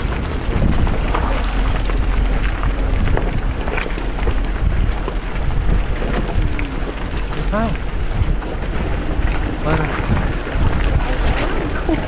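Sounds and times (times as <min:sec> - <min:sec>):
engine and tyres rumbling: 0:00.0 - 0:12.0
knocks and clatter: 0:00.0 - 0:12.0.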